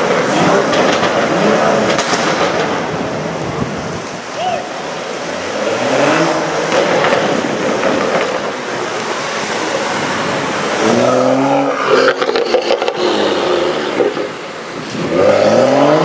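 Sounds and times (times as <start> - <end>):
exhaust crackles and pops: 0.0 - 15.1
car engine revving: 0.0 - 16.0.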